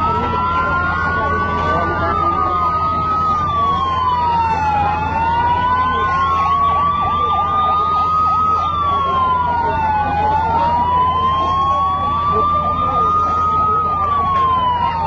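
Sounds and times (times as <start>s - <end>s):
emergency sirens wailing: 0.0s - 15.0s.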